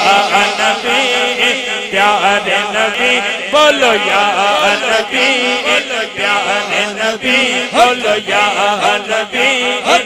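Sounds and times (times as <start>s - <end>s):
men chanting: 0.0s - 10.0s.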